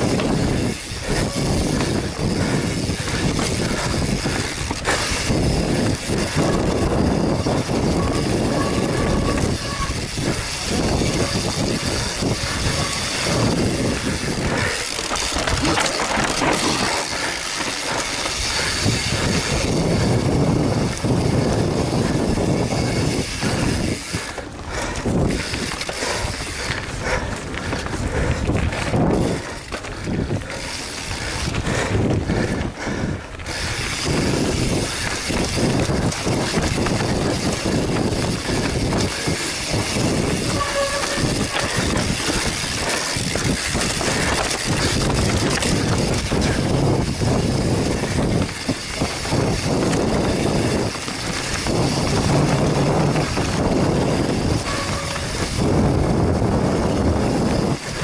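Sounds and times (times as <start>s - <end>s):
bike rattling over bumps: 0.0s - 58.0s
tyres running over dirt: 0.0s - 58.0s
wind over microphone: 0.0s - 58.0s.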